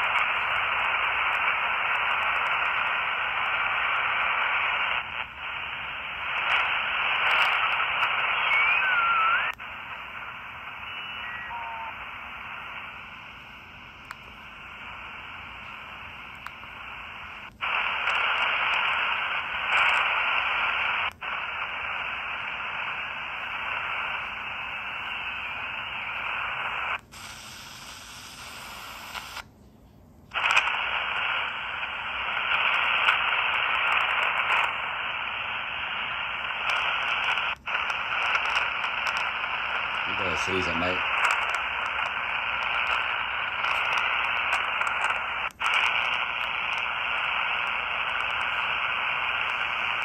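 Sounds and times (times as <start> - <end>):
radio static hiss: 0.0 - 29.5, 30.2 - 50.0.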